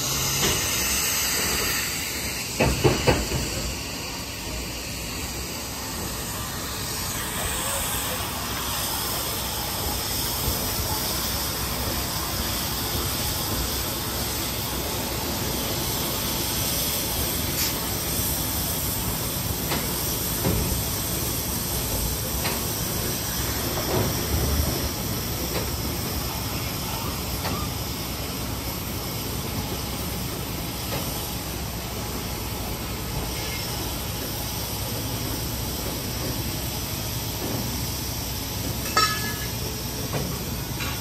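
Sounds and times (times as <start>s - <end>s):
steam locomotive hissing: 0.0s - 41.0s.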